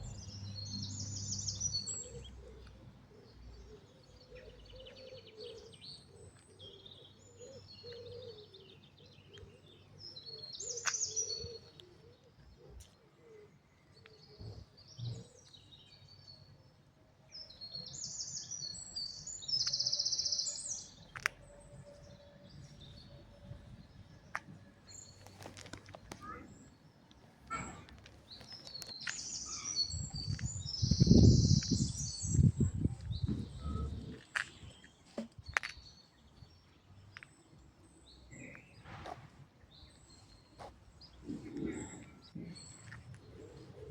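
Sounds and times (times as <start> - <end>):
songbirds singing: 0.0 - 43.9.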